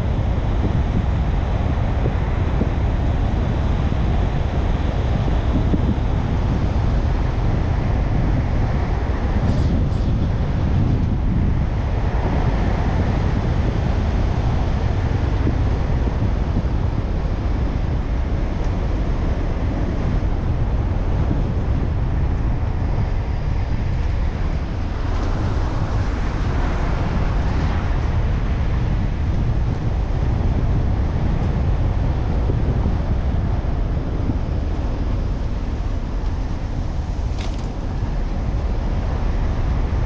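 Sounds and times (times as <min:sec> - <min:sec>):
car road and wind noise: 0:00.0 - 0:40.0.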